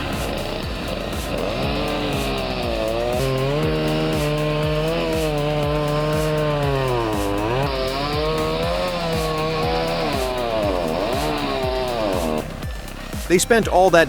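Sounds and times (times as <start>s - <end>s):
background music with steady beat: 0.0s - 14.0s
chainsaw cutting: 0.0s - 14.0s.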